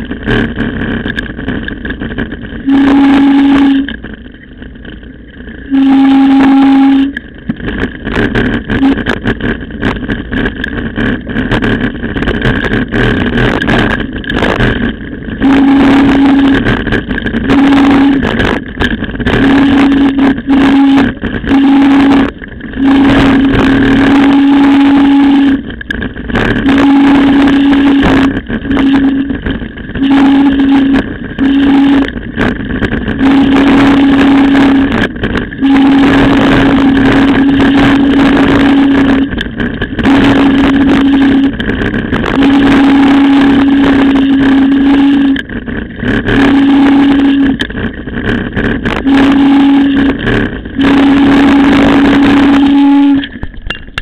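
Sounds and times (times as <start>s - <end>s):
bike rumble and rattle on gravel: 0.0s - 54.0s
low hum cutting in and out: 0.0s - 54.0s
wind noise: 0.0s - 54.0s.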